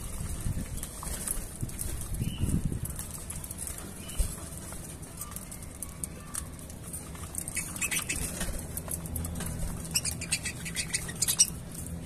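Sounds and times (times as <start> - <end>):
birds cracking seeds: 0.0 - 12.0.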